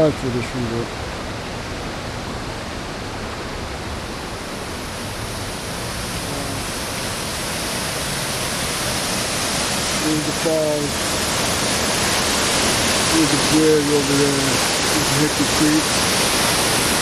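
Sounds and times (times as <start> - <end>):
creek running over rocks: 0.0 - 17.0
water spilling over low dam: 0.0 - 17.0.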